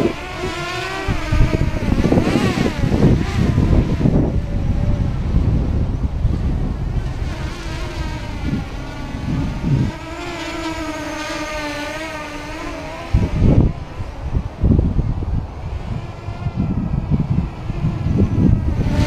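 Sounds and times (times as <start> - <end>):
quadcopter propellers buzzing: 0.0 - 19.0
wind buffeting microphone: 0.0 - 19.0.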